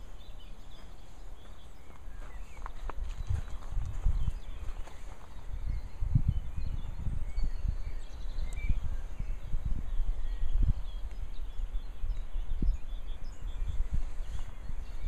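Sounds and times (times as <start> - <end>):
faint birds chirping: 0.0 - 15.0
wind buffeting microphone: 0.0 - 15.0.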